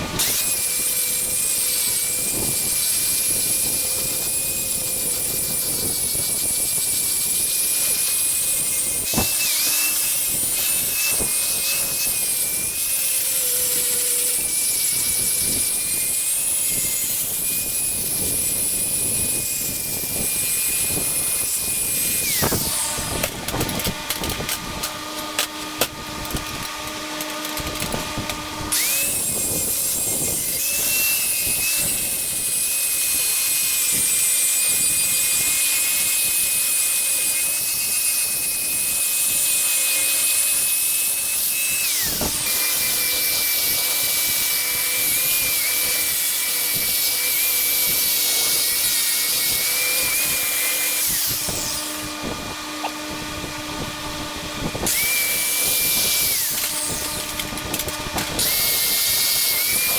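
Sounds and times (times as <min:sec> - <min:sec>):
angle grinder grinding steel: 0:00.0 - 0:59.9.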